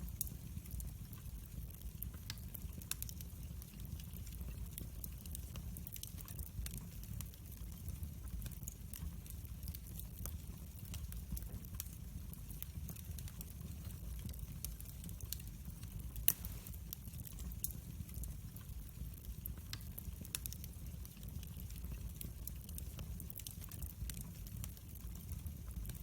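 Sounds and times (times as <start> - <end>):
fire pops and snaps: 0.0 - 26.0
wood fire burning: 0.0 - 26.0.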